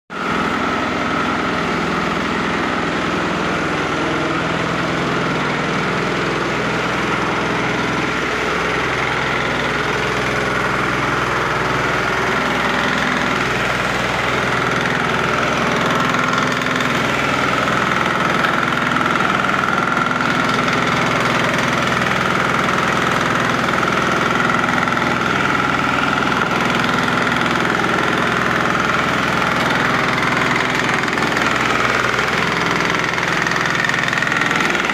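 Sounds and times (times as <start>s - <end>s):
grinding machine motor whining: 0.2s - 34.9s.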